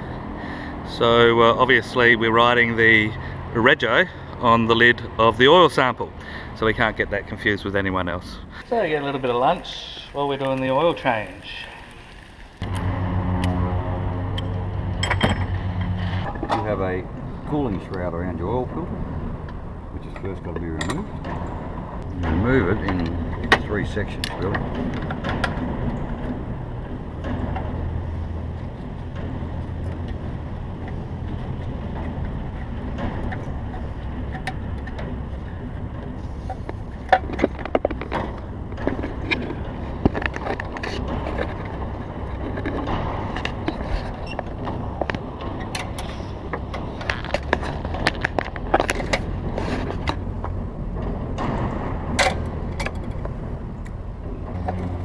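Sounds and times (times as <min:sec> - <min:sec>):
steady low rumble: 0:00.0 - 0:55.0.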